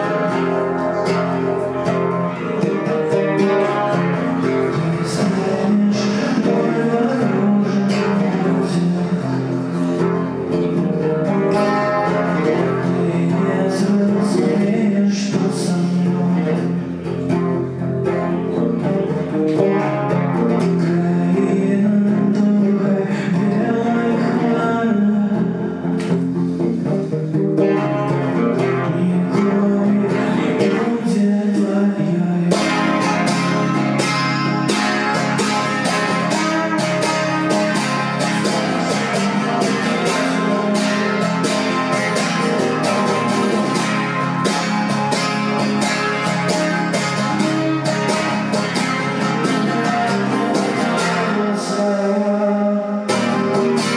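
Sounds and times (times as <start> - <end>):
acoustic guitar strumming: 0.0 - 53.9.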